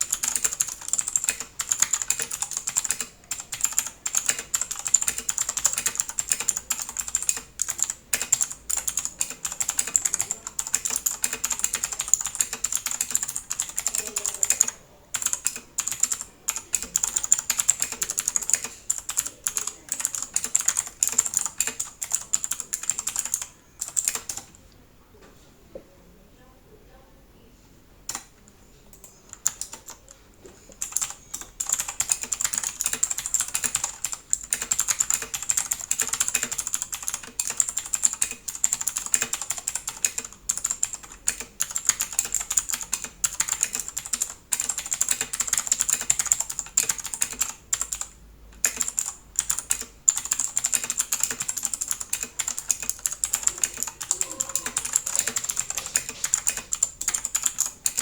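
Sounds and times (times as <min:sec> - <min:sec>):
mechanical keyboard typing: 0:00.0 - 0:24.6, 0:28.9 - 0:58.0.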